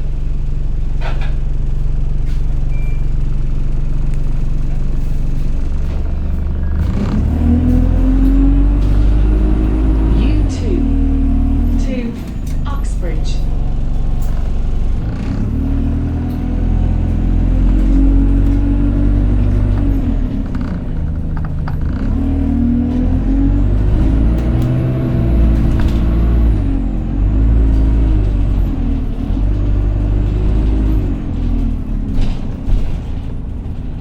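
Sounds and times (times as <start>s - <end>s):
bus engine accelerating: 0.0s - 34.0s.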